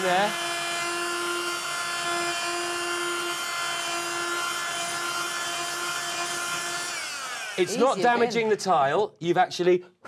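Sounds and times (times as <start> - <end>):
oscillating multi-tool buzzing: 0.0 - 8.2.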